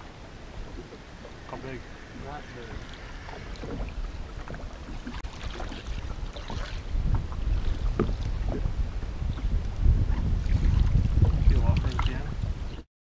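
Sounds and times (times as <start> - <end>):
water lapping around boat: 0.0 - 12.9
wind buffeting microphone: 0.0 - 12.9.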